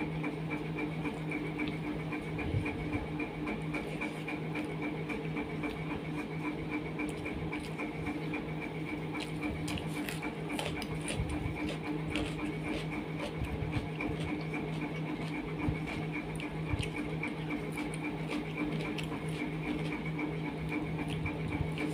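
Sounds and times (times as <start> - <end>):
low pulsing hum: 0.0 - 21.9
chewing: 0.1 - 21.9
fingers mixing food on steel plate: 0.3 - 21.9.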